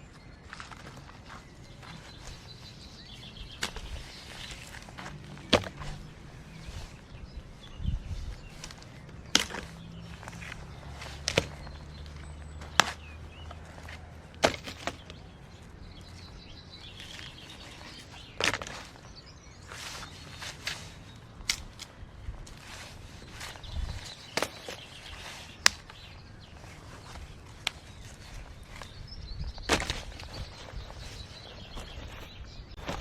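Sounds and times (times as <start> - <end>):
faint birds chirping: 0.0 - 33.0.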